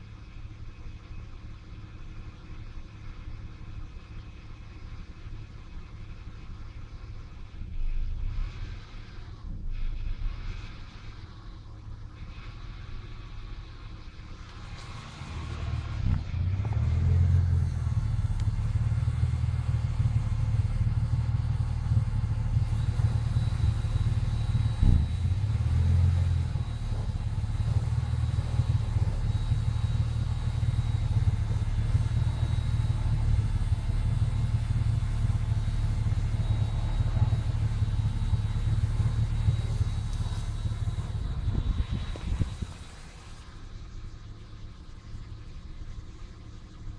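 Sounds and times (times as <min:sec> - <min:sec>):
engine idling unevenly: 0:00.0 - 0:46.9.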